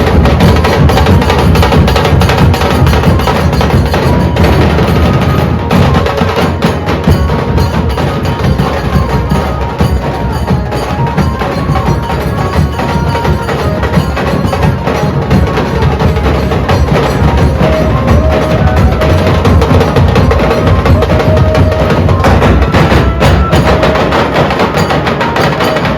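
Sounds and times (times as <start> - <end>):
dhol drumming ensemble: 0.0 - 25.9.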